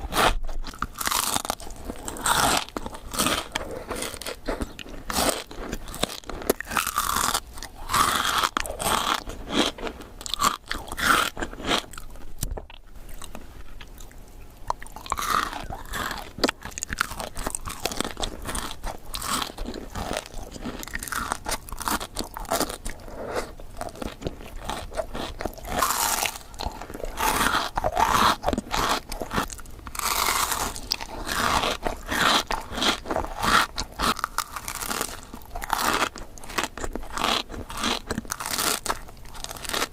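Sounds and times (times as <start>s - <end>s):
crunchy chocolate chewing: 0.0s - 39.9s.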